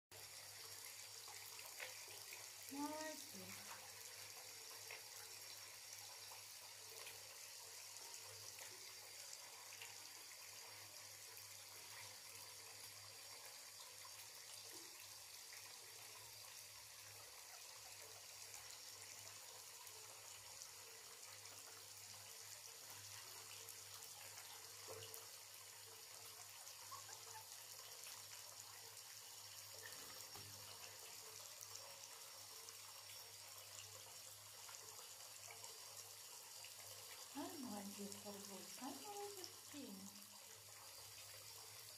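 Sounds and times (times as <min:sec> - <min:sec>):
water running from a tap: 0:00.1 - 0:41.9.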